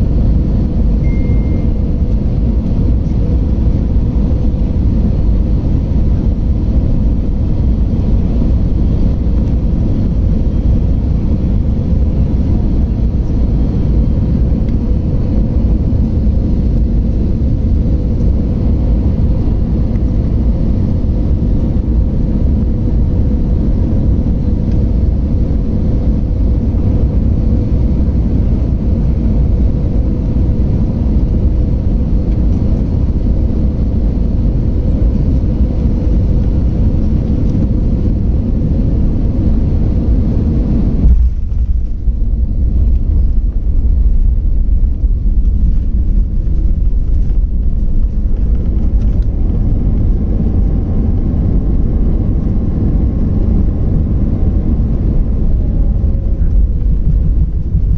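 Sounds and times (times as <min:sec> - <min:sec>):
airliner cabin engine rumble: 0:00.0 - 0:57.9.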